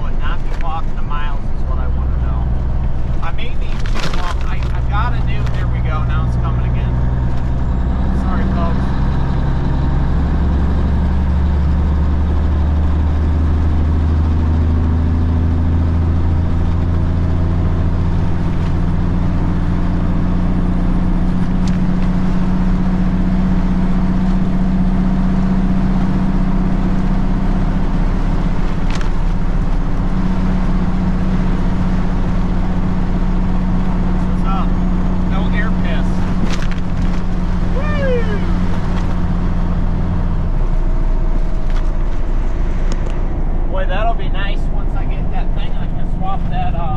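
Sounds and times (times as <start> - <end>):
road noise: 0.0 - 46.9
truck diesel engine drone: 0.0 - 46.9.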